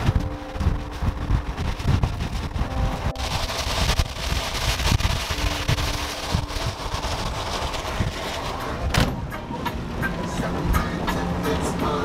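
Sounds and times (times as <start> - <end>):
wind buffeting microphone: 0.0 - 11.9
tyres hissing on wet road: 0.0 - 12.0.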